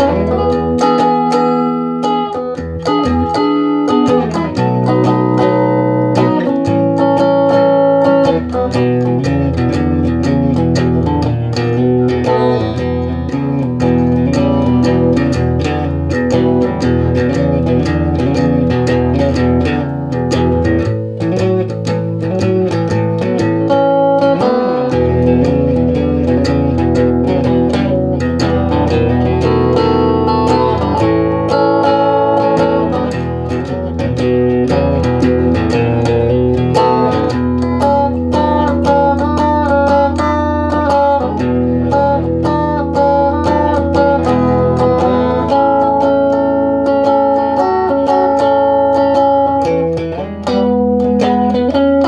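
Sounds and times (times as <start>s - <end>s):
plucked and strummed guitar: 0.0s - 52.0s.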